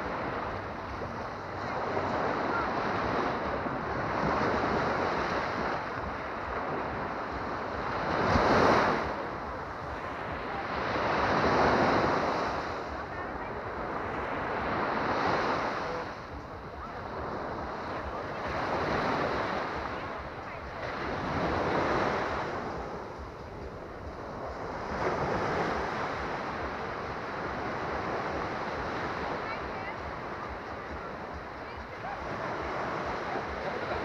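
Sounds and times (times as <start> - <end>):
surf breaking on sandy beach: 0.0 - 34.0
wind rumble on microphone: 0.0 - 34.0.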